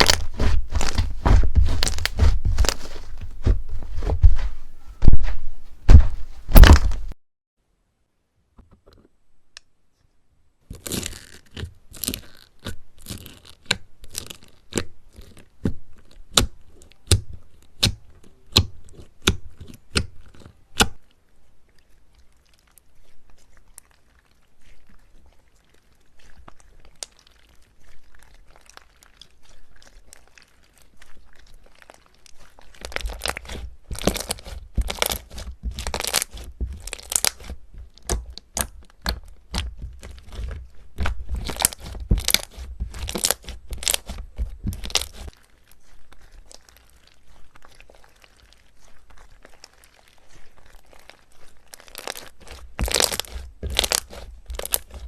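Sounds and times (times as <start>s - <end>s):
crunchy slime crackling and popping: 0.0s - 5.3s, 5.9s - 7.2s, 10.7s - 21.1s, 21.8s - 55.0s
slime squishing: 0.0s - 7.2s, 10.7s - 55.0s.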